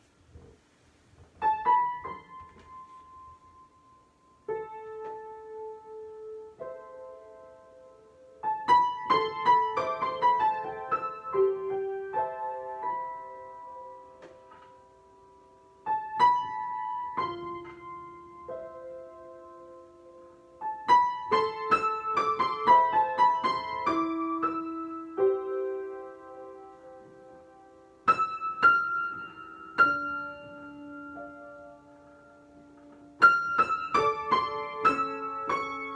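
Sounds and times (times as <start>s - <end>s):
solo piano chords: 1.2s - 35.9s.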